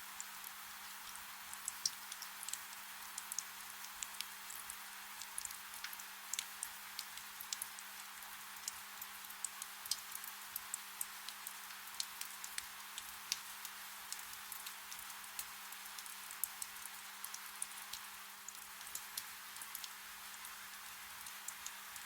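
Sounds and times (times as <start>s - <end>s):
soft rain with ticking drops: 0.0s - 22.0s.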